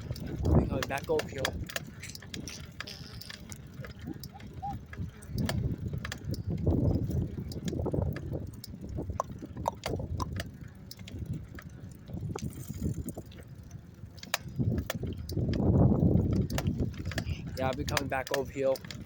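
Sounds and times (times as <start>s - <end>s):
bicycle clicks and rattles: 0.0s - 19.0s
wind and tyre rumble: 0.0s - 19.0s.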